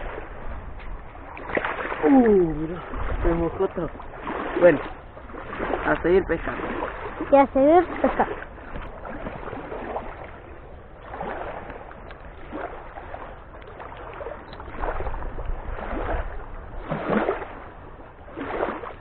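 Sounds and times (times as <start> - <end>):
water lapping against shore: 0.0 - 19.0.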